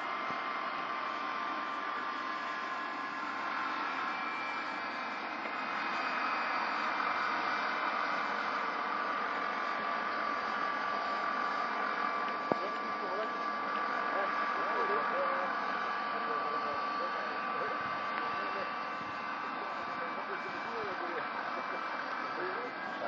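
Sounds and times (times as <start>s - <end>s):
gas turbine engine whine: 0.0s - 23.0s.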